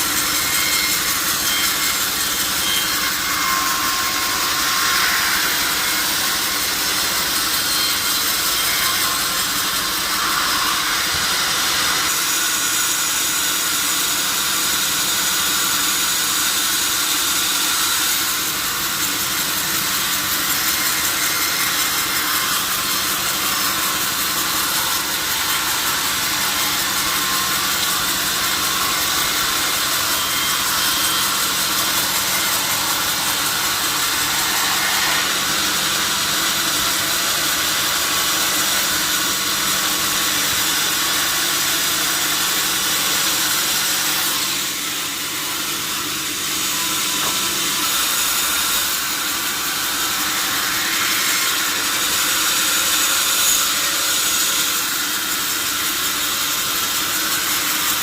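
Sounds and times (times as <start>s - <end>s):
saw cutting through log: 0.0s - 58.0s.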